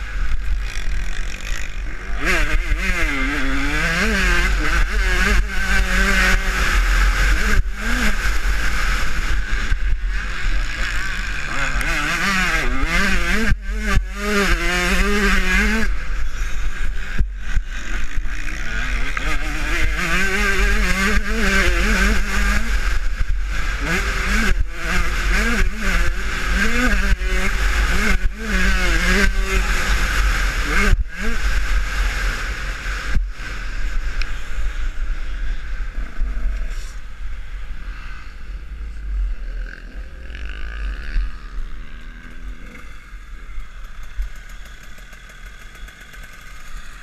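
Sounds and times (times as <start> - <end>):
motocross bike engine revving: 0.0 - 47.0.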